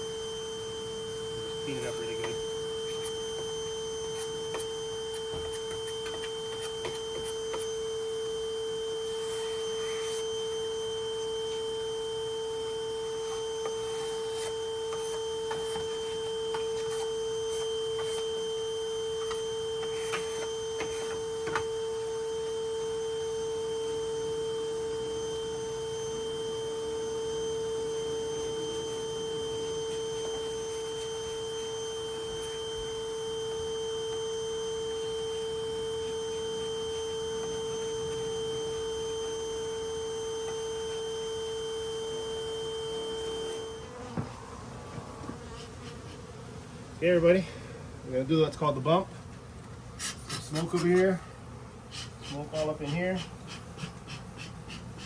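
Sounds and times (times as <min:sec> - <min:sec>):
steady high-pitched whine: 0:00.0 - 0:55.0.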